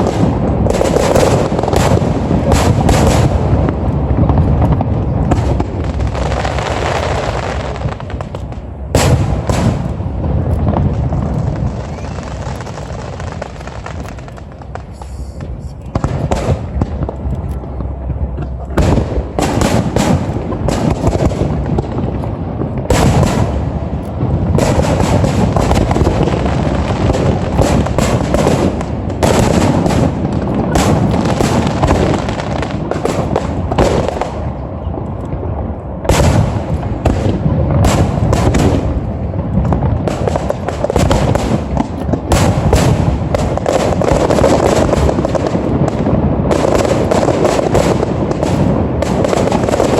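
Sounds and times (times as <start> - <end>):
fireworks booming and crackling: 0.0 - 49.9.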